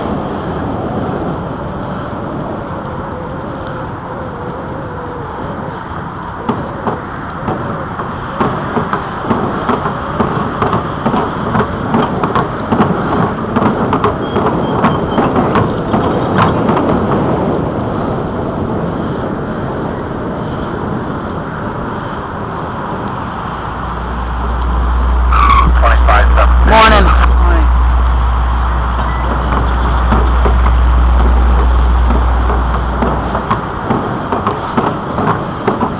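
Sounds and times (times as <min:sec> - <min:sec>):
bicycle tires rolling: 0:00.0 - 0:35.9
wind noise: 0:00.0 - 0:35.9.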